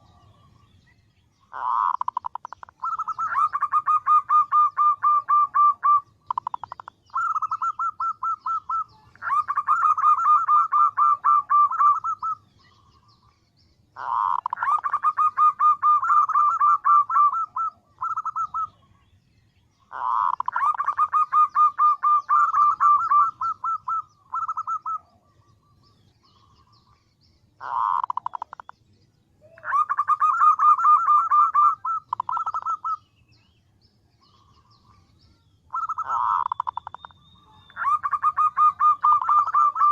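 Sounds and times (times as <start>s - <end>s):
dove calling in pulsed notes: 0.0s - 19.0s, 19.8s - 28.8s, 29.4s - 33.5s, 34.2s - 39.9s.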